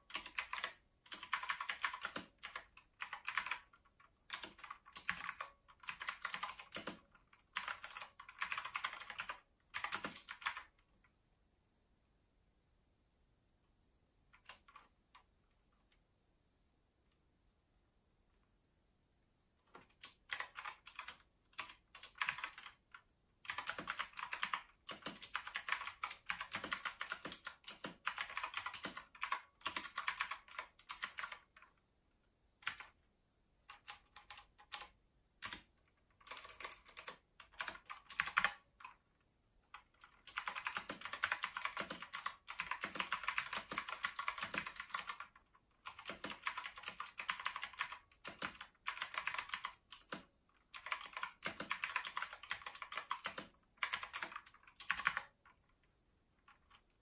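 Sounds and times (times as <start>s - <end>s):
mechanical keyboard typing clicks: 0.0s - 10.8s, 14.4s - 15.2s, 19.7s - 31.7s, 32.6s - 33.0s, 33.7s - 39.0s, 39.7s - 57.0s.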